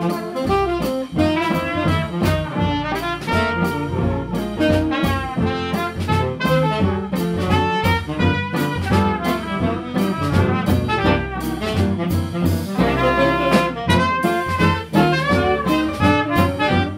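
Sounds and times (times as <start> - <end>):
drum kit: 0.0 - 16.9
piano: 0.0 - 16.9
saxophone and trumpet: 0.0 - 16.9
upright bass: 0.0 - 16.9.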